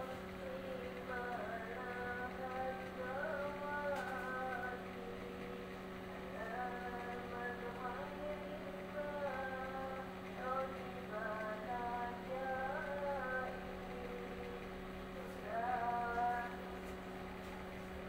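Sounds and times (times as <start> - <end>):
woman singing: 0.0 - 5.6, 6.2 - 14.6, 15.2 - 17.0
low electrical hum: 0.0 - 18.0.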